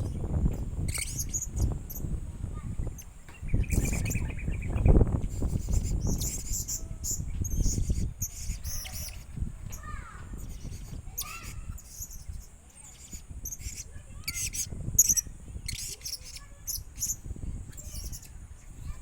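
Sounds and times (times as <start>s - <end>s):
low rumbling and bumps: 0.0s - 19.0s
parrot squeaky chirps: 0.9s - 2.1s, 3.0s - 18.4s.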